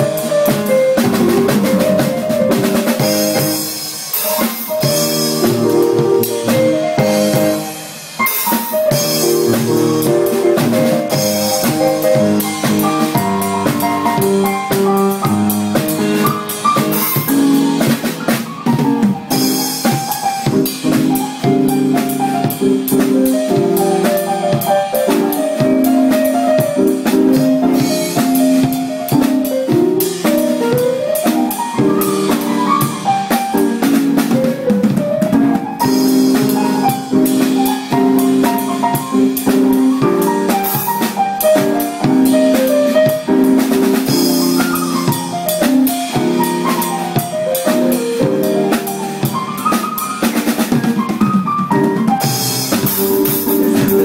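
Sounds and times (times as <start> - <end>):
drum kit beat: 0.0 - 54.0
keyboard chords: 0.0 - 54.0.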